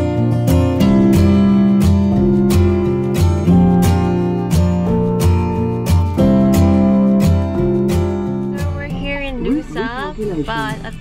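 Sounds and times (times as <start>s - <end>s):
low bass line: 0.0s - 11.0s
strummed acoustic guitar: 0.0s - 11.0s.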